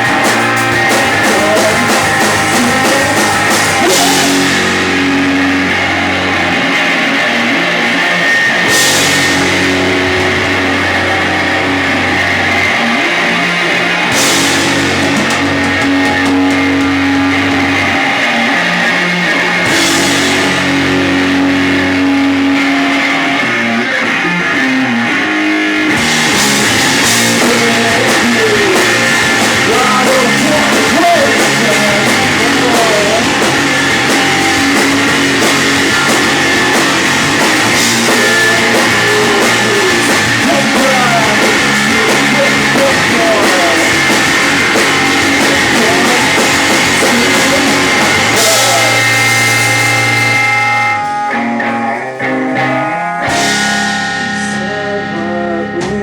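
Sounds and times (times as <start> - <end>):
held guitar notes: 0.0 - 56.0
rock band playing: 0.0 - 56.0.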